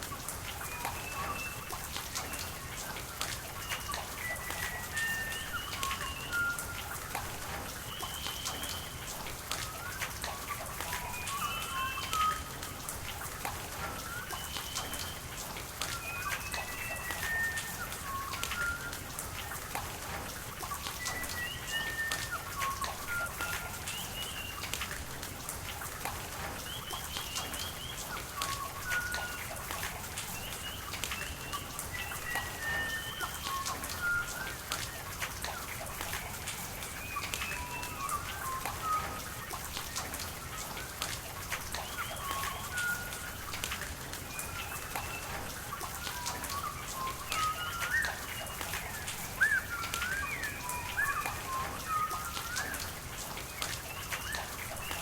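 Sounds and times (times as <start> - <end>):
steady rain with drop ticks: 0.0 - 55.0.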